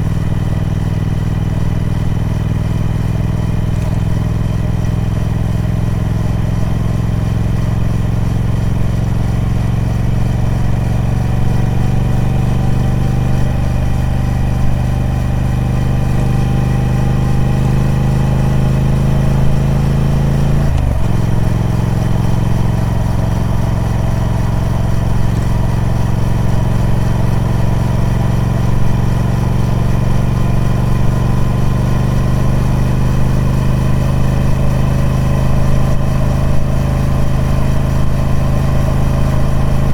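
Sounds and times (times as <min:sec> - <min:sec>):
motorcycle engine revving under load: 0:00.0 - 0:39.9.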